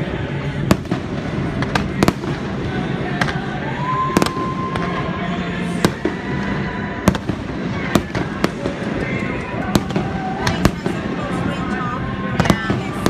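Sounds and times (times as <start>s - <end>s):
fireworks launching and bursting: 0.0s - 13.0s.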